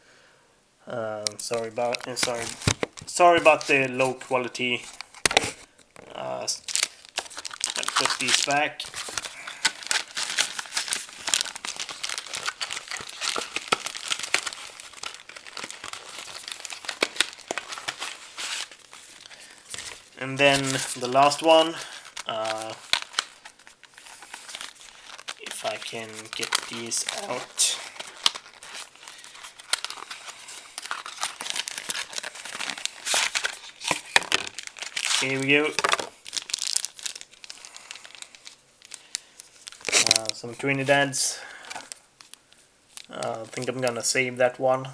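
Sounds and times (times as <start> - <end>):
packaging crinkling: 1.3 - 44.2.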